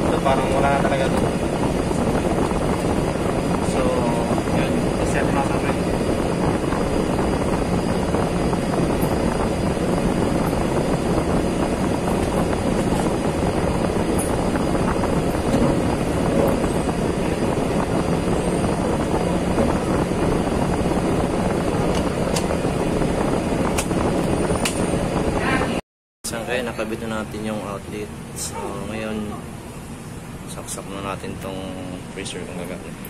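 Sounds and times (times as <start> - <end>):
droning machine: 0.0 - 33.0.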